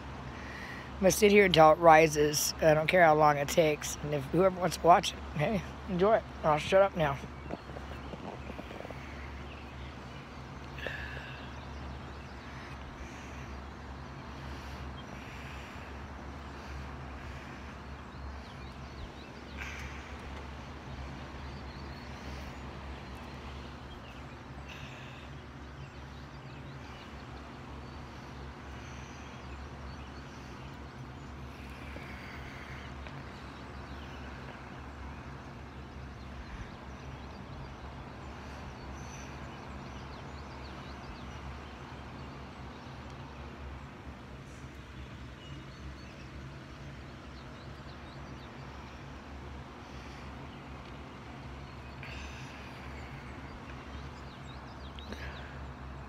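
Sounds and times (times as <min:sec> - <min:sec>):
birds calling: 0:00.0 - 0:56.0
steady low hum: 0:00.0 - 0:56.0.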